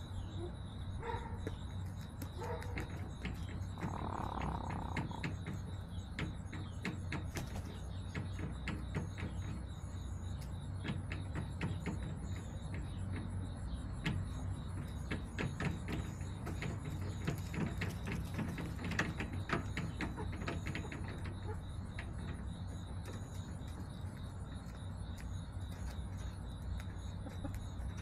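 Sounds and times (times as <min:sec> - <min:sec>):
steady low hum: 0:00.0 - 0:28.0
hens pecking and scratching: 0:00.9 - 0:28.0.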